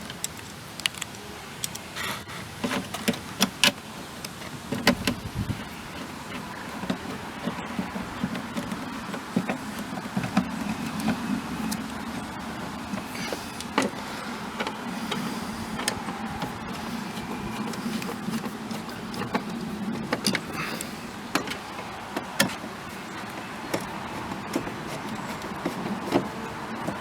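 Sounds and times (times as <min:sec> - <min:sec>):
metal clips being handled: 0:00.1 - 0:02.0, 0:02.6 - 0:27.0
plastic trim clicking and knocking: 0:02.6 - 0:27.0.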